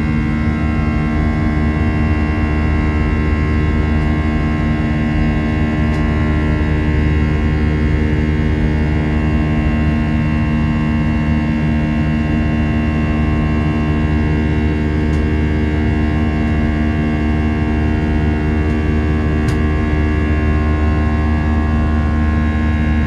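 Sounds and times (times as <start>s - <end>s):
jet engine buzzsaw drone: 0.0s - 23.0s.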